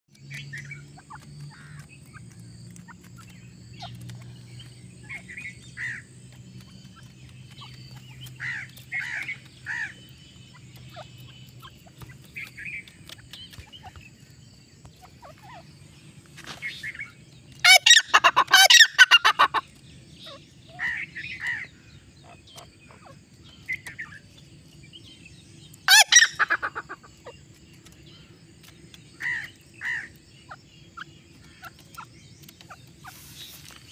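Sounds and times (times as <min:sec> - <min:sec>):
bird calling in harsh runs: 0:00.1 - 0:33.9
bird chirping softly: 0:00.1 - 0:33.9.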